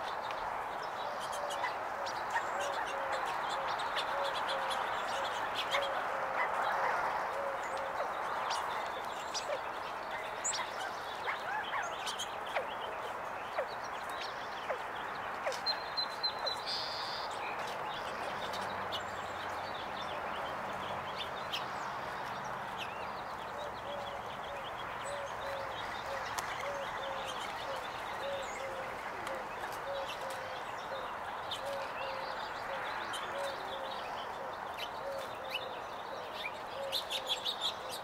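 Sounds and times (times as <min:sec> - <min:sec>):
songbirds chirping: 0:00.0 - 0:38.0
steady outdoor hiss: 0:00.0 - 0:38.0.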